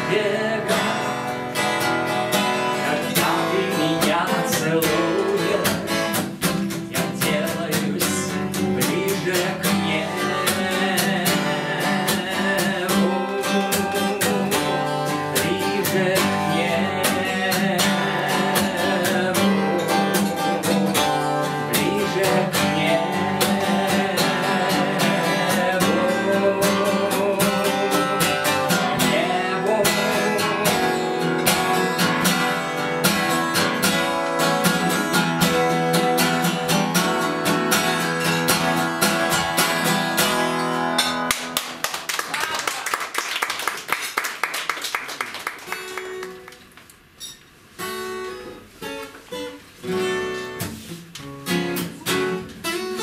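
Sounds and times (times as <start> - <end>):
acoustic guitar strummed: 0.0 - 41.8, 45.7 - 53.0.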